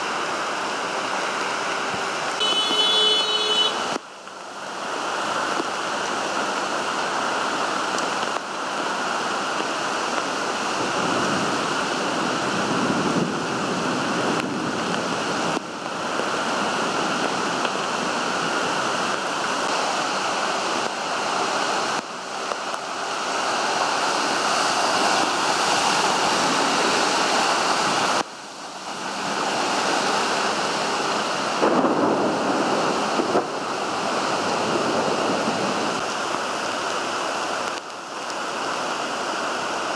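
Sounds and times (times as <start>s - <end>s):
pouring rain: 0.0s - 39.9s
running water: 0.0s - 39.9s.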